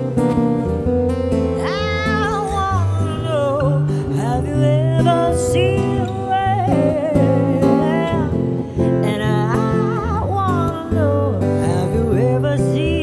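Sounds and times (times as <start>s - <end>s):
woman singing into a microphone: 1.6s - 13.0s.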